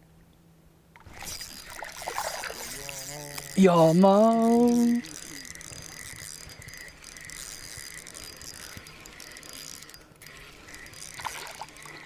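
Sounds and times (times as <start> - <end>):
fishing reel clicking: 1.0 - 12.0.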